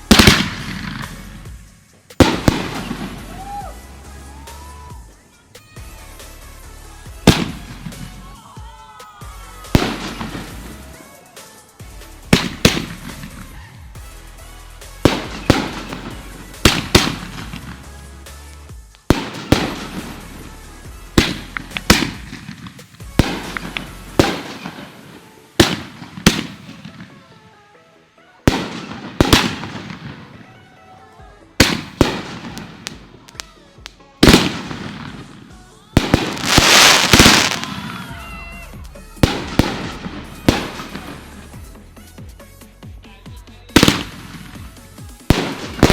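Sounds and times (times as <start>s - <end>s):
fireworks bangs and crackle: 0.0s - 27.5s, 28.4s - 30.6s, 31.6s - 42.3s, 43.7s - 45.9s
music: 0.0s - 45.9s.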